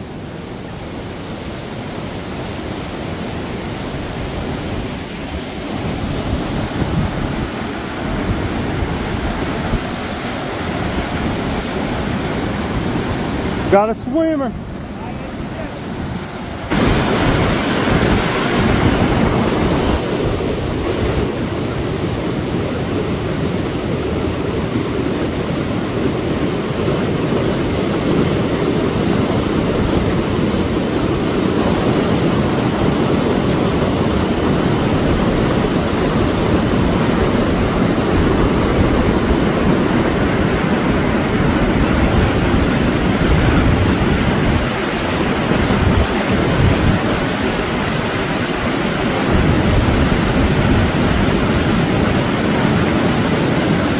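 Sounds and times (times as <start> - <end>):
whitewater rushing: 0.0 - 53.9
wind buffeting microphone: 0.0 - 53.9.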